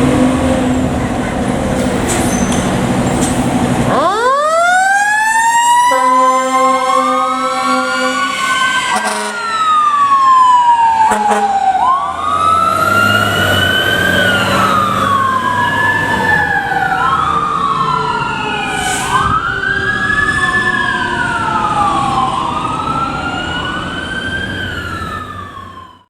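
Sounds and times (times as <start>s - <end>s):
fire truck sirens wailing: 0.0s - 26.0s
steady siren tone falling: 3.9s - 26.0s.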